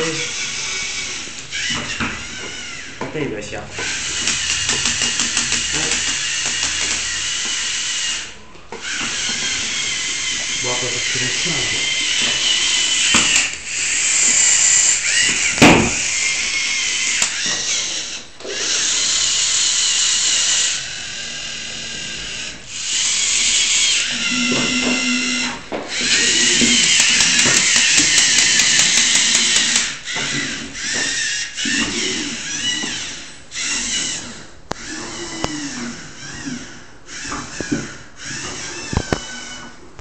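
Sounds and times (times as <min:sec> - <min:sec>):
electric motors whining: 0:00.0 - 0:40.0.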